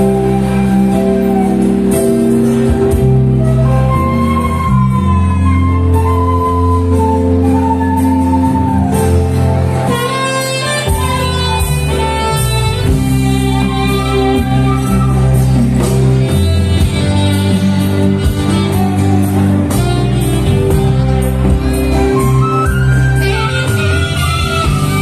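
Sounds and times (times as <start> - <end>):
live band music: 0.0 - 25.0.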